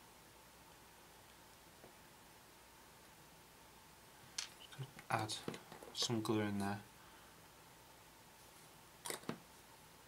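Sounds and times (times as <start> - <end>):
faint high hum: 0.0 - 10.0
faint steady hiss: 0.0 - 10.0.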